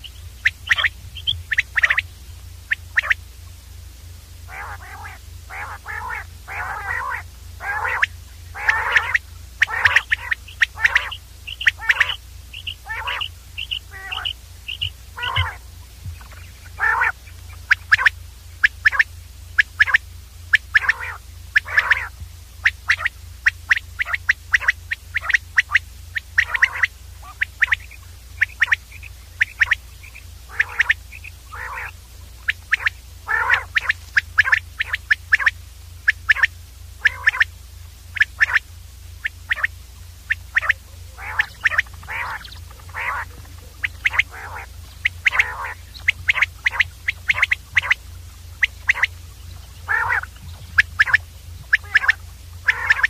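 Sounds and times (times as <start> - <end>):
quail calling: 0.0 - 3.3, 4.4 - 53.0
steady low hum: 0.0 - 53.0.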